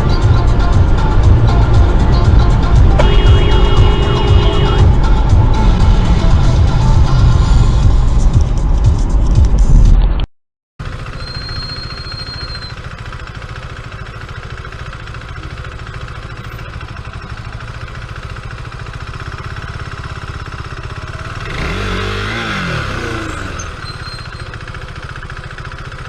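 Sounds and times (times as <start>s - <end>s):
motorcycle engine revving: 0.0s - 9.6s, 10.8s - 26.0s
car driving in traffic: 0.0s - 9.7s, 10.8s - 26.0s.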